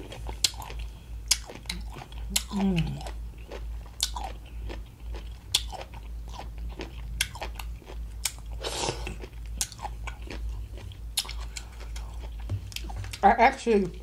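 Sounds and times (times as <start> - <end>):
crunchy radish chewing: 0.0 - 13.2.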